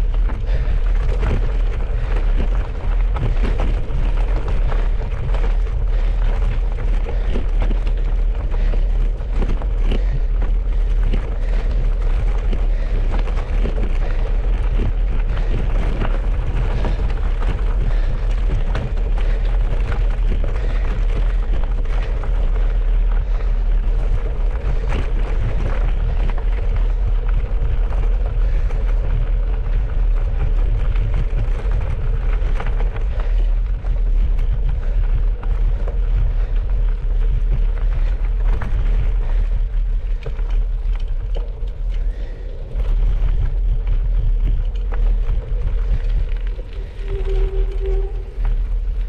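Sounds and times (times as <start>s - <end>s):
bicycle tyres rolling on gravel: 0.0s - 49.0s
wind buffeting microphone: 0.0s - 49.0s.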